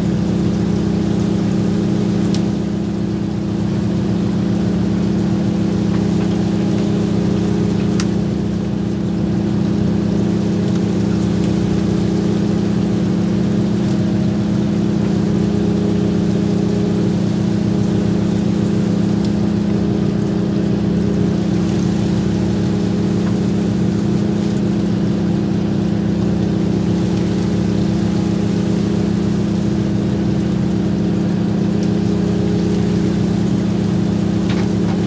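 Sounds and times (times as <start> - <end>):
boat engine humming: 0.0 - 35.0.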